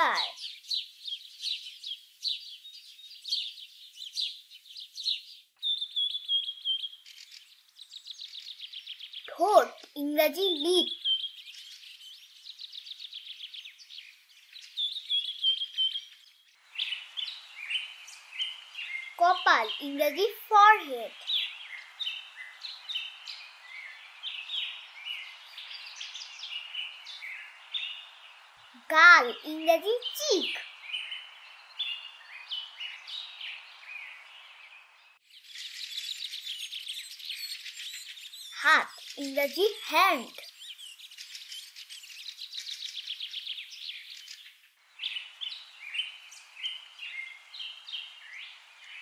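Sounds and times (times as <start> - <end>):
birds chirping and twittering: 0.0 - 49.0.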